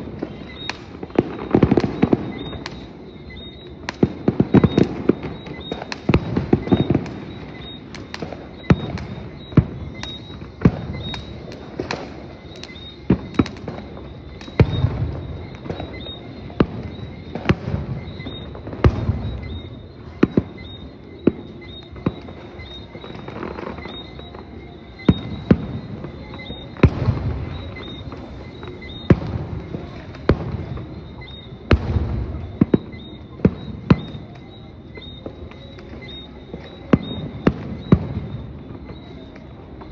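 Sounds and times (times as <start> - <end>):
deep fireworks booms: 0.0 - 39.9
fireworks bangs: 0.0 - 39.9.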